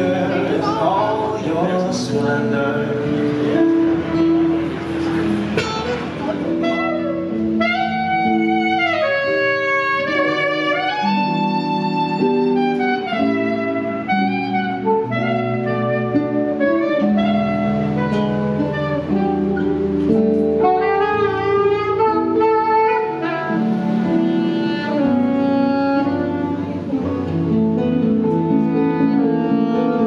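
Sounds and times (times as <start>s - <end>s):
acoustic guitar accompaniment: 0.0s - 30.0s
saxophone melody with sliding notes: 0.0s - 30.0s.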